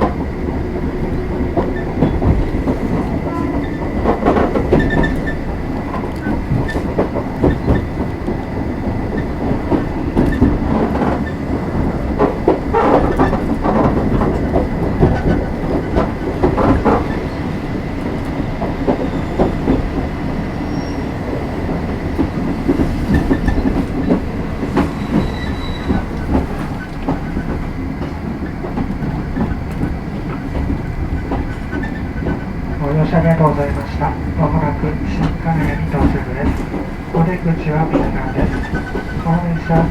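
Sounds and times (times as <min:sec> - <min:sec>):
rail clacks: 0:00.0 - 0:39.9
wheels rumbling on rail: 0:00.0 - 0:39.9.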